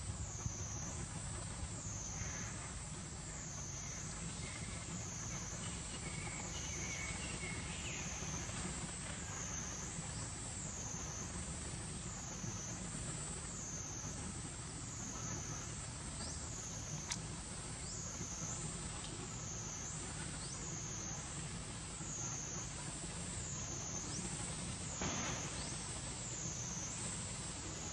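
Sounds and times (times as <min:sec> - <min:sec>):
cicadas buzzing: 0:00.0 - 0:27.9
low steady rumble: 0:00.0 - 0:27.9.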